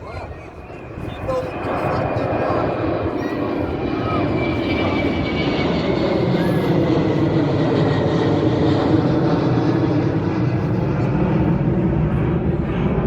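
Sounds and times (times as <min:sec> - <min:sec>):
jet engines taking off: 0:00.0 - 0:13.0.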